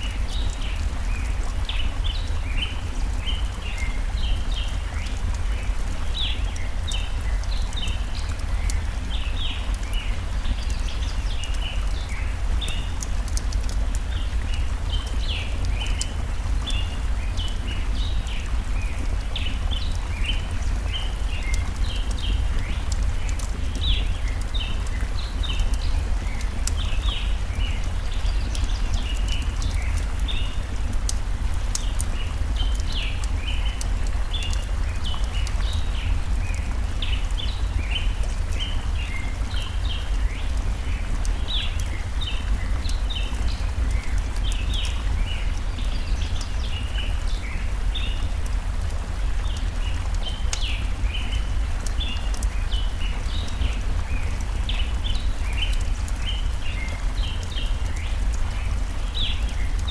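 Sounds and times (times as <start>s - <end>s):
campfire crackling: 0.0s - 59.9s
small birds chirping: 0.0s - 59.9s
stream running: 0.0s - 59.9s.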